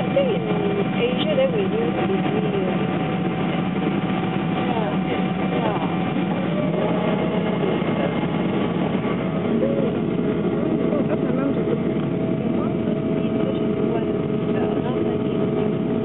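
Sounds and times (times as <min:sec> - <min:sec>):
airliner cabin engine rumble: 0:00.0 - 0:16.0
faint voices: 0:00.0 - 0:16.0.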